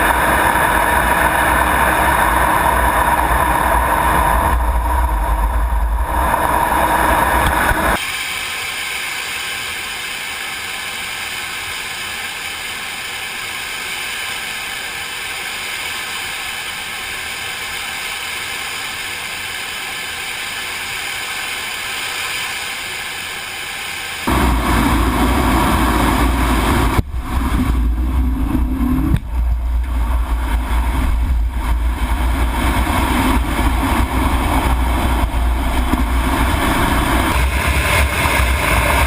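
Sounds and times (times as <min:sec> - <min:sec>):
high hiss: 0:00.0 - 0:39.0
jet engine rumble: 0:00.0 - 0:39.0.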